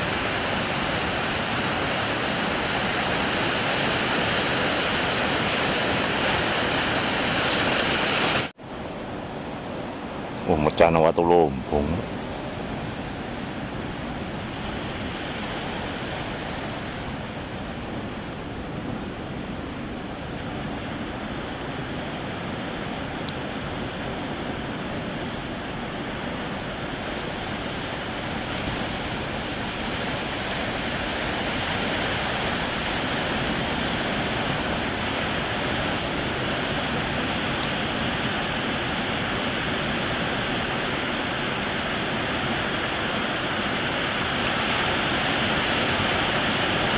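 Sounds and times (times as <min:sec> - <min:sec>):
ocean surf breaking: 0:00.0 - 0:46.9.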